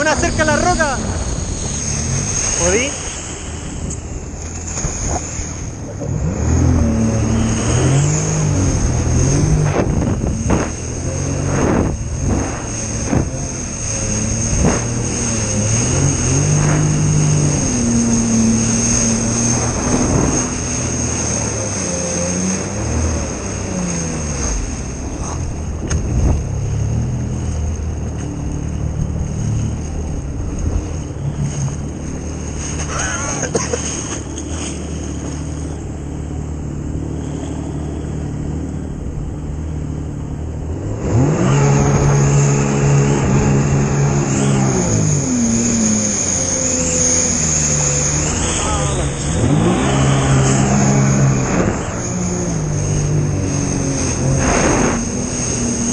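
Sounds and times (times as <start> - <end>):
jet ski engine revving: 0.0 - 55.9.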